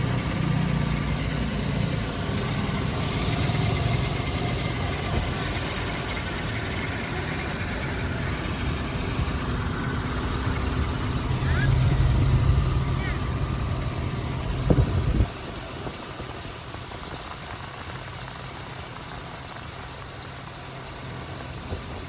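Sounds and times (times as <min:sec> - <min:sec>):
high-pitched fluttering squeak: 0:00.0 - 0:18.4.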